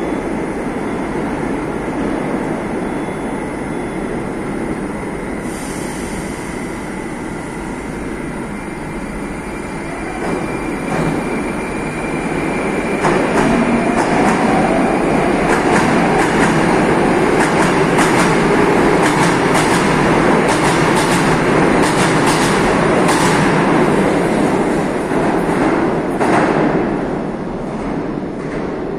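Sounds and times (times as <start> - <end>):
train pulling out: 0.0 - 24.9.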